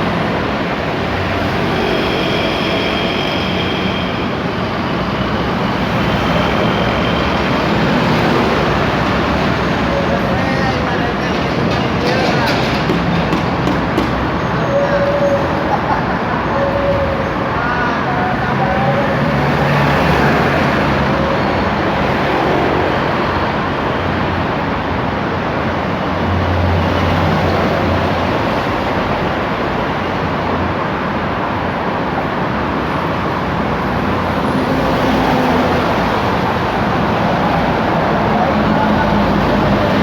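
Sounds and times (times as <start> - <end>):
road traffic noise: 0.0 - 40.0.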